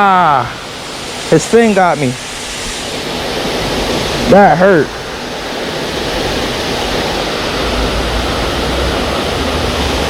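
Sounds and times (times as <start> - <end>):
small waterfall rushing: 0.0 - 10.0.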